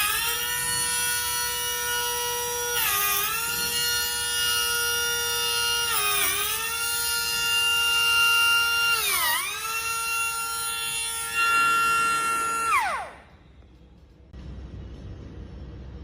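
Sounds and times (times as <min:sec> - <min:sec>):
pneumatic grinder whining: 0:00.0 - 0:13.8.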